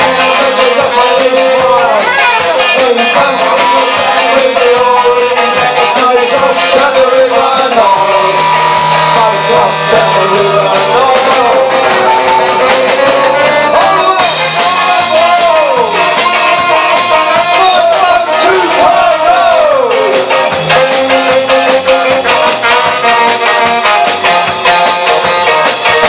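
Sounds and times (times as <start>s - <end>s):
bass guitar: 0.0s - 26.0s
drums: 0.0s - 26.0s
electric guitar: 0.0s - 26.0s
saxophone melody: 0.0s - 26.0s.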